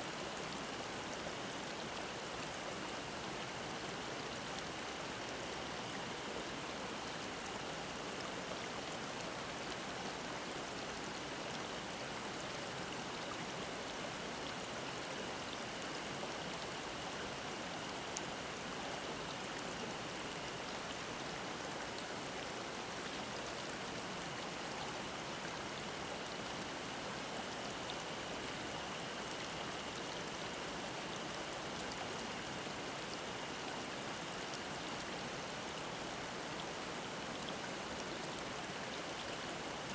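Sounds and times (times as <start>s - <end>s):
stream babbling: 0.2s - 39.9s.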